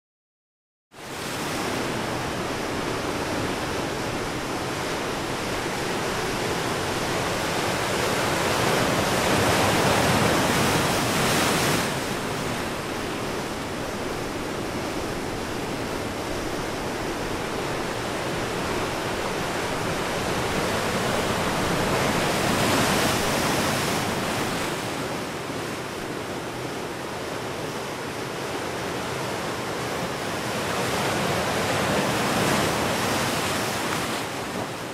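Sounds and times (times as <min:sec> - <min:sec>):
ocean surf washing ashore: 0:01.0 - 0:34.9.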